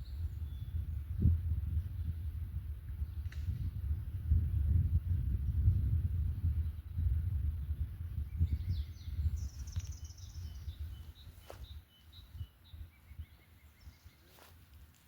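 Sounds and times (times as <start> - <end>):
songbirds calling: 0.0 - 3.7, 6.4 - 15.0.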